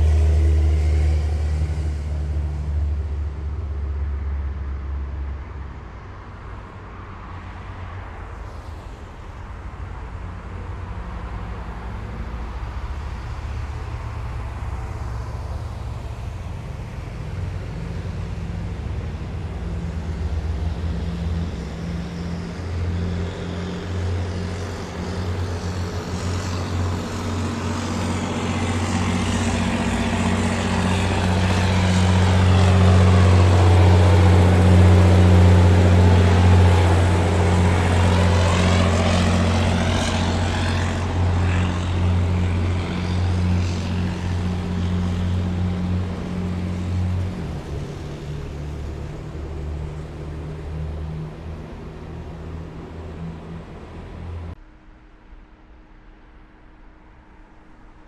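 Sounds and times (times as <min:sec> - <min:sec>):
heavy vehicle engines driving past: 0:00.0 - 0:54.6.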